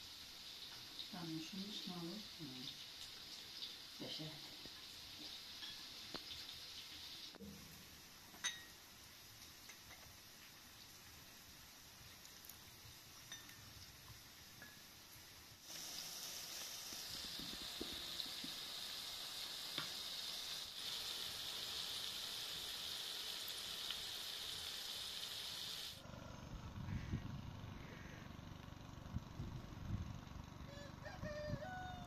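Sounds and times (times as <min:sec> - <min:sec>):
food sizzling in frying pan: 0:00.0 - 0:26.0.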